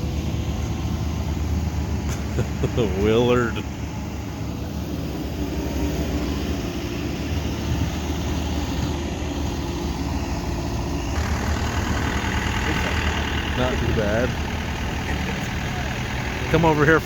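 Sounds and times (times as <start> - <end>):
heavy equipment engines droning: 0.0 - 17.0.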